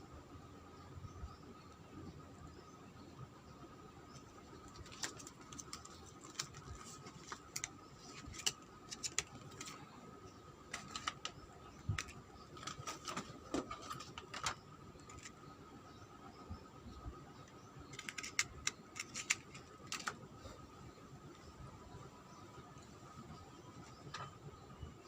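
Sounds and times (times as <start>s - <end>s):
faint steady tone: 0.0s - 25.0s.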